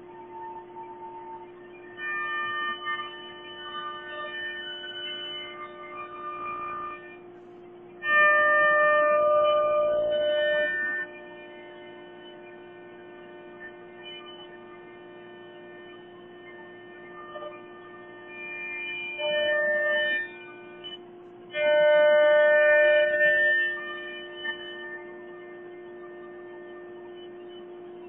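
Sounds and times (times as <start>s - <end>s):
cnc router whine: 0.0s - 28.0s
higher multi-tone whine: 0.0s - 28.0s.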